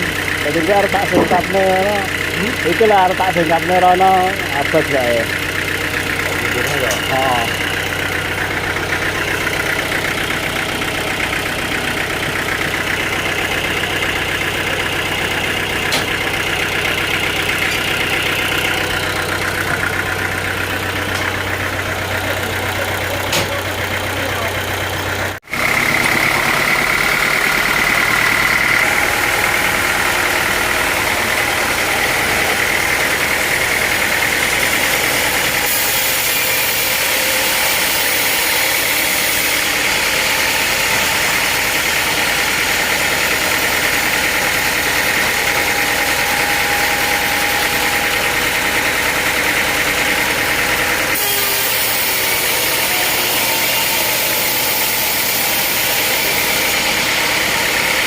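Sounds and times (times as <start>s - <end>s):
high-pitched machine whine: 0.0s - 58.0s
sawmill machinery humming: 0.0s - 58.0s.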